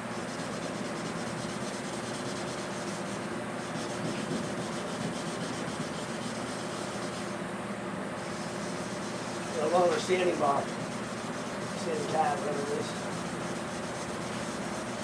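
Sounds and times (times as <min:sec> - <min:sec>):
sandpaper rubbing on metal panel: 0:00.0 - 0:07.3, 0:08.2 - 0:15.0.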